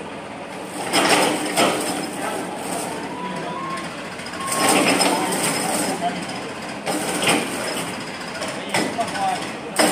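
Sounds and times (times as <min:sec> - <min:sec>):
tractor engine running: 0:00.0 - 0:09.9.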